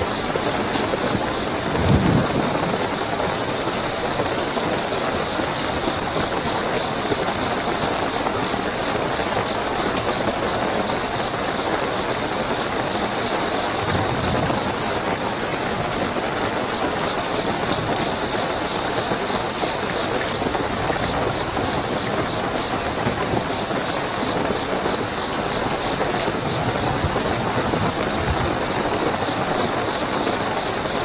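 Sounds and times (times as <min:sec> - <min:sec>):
crickets trilling: 0:00.0 - 0:31.0
heavy rainfall: 0:00.0 - 0:31.0.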